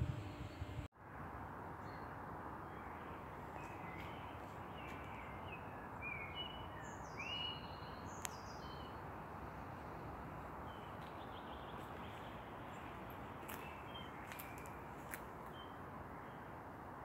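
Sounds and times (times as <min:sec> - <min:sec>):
outdoor background hiss: 0:00.0 - 0:17.0
small birds chirping: 0:01.8 - 0:16.5.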